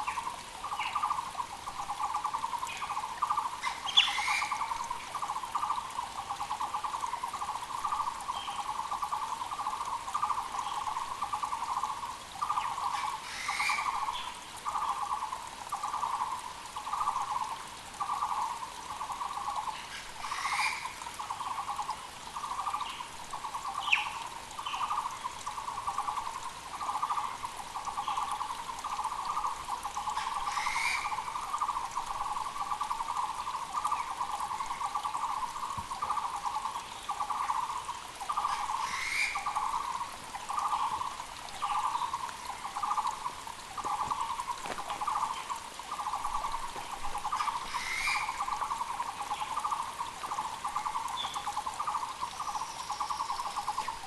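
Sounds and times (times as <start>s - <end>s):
creek rushing: 0.0s - 54.0s.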